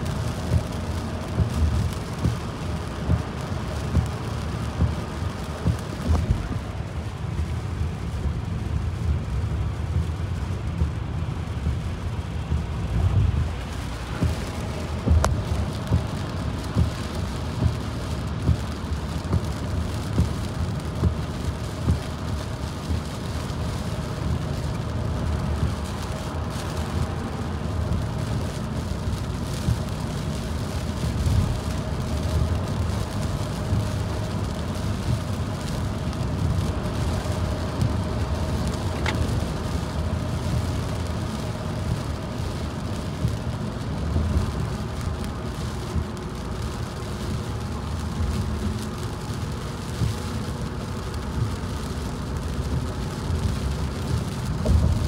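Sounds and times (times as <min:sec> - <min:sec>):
road rumble inside car: 0:00.0 - 0:55.0
tyres and rain hissing: 0:00.0 - 0:55.0
soft regular thumps: 0:00.3 - 0:09.2, 0:09.9 - 0:27.0, 0:27.8 - 0:51.8, 0:52.4 - 0:55.0.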